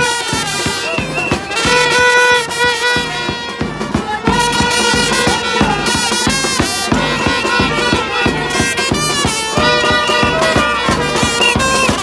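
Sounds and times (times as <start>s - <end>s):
bass drum beat: 0.0s - 12.0s
snare drum: 0.0s - 12.0s
trumpets holding long notes: 0.0s - 12.0s.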